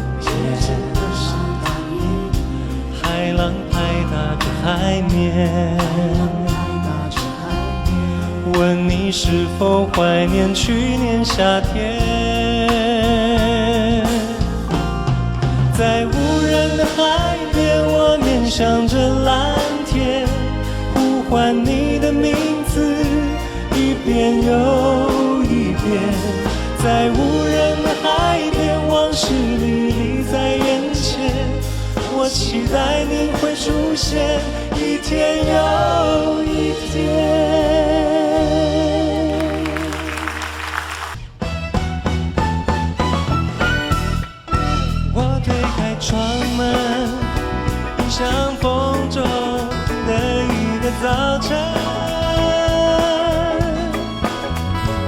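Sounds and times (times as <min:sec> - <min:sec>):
person singing pop ballad: 0:00.0 - 0:40.3, 0:45.2 - 0:55.0
band accompaniment: 0:00.0 - 0:55.0.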